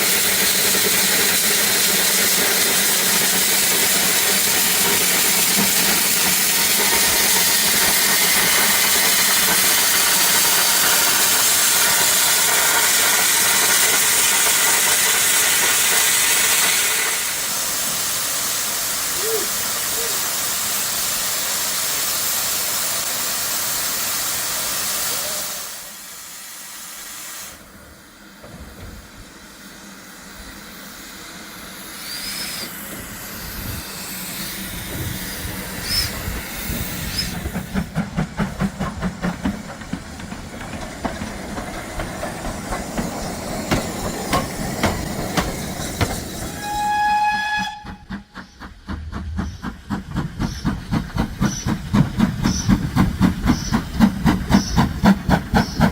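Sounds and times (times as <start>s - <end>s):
steam locomotive venting steam: 0.0s - 55.9s.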